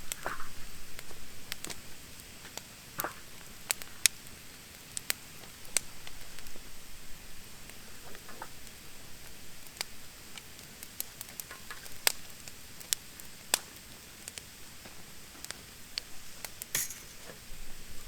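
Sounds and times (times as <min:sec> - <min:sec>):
wood fire crackling: 0:00.0 - 0:17.8.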